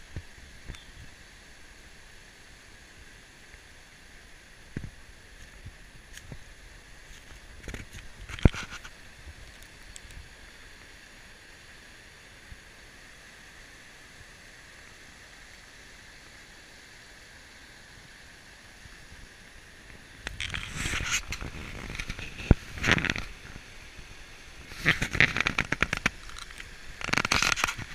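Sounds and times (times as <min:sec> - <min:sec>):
river water running over stones: 0:00.0 - 0:27.9.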